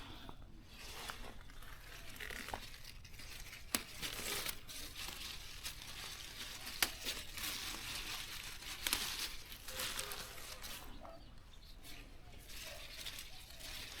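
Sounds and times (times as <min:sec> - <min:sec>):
crinkling rustling handling noise: 0:00.0 - 0:14.0.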